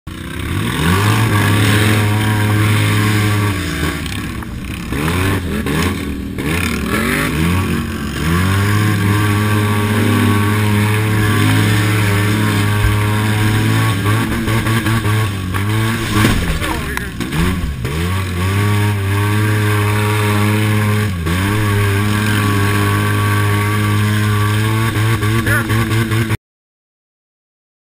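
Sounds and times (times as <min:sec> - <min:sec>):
engine running at high revs: 0:00.1 - 0:26.4.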